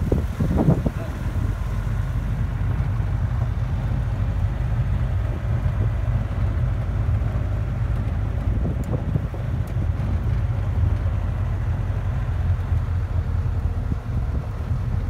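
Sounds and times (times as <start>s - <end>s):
truck engine and tyre rumble: 0.0s - 15.0s
wind buffeting microphone: 0.0s - 15.0s.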